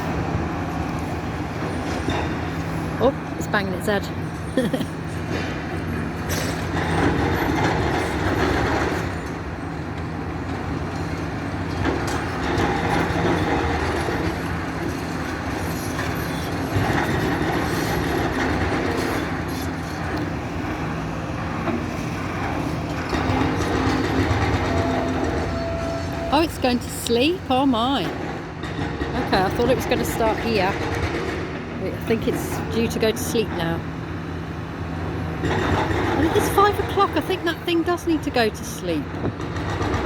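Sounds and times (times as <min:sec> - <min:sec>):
excavator diesel engine running: 0:00.0 - 0:40.0
clatter and scraping of wreckage: 0:04.3 - 0:33.8, 0:34.9 - 0:38.2, 0:38.9 - 0:40.0.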